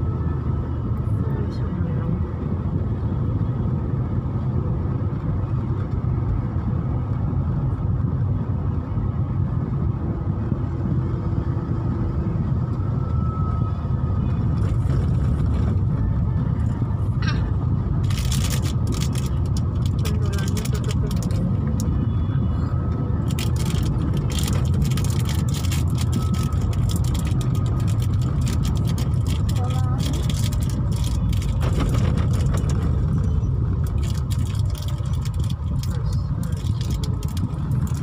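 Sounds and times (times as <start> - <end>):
car road and engine rumble: 0.0 - 38.0.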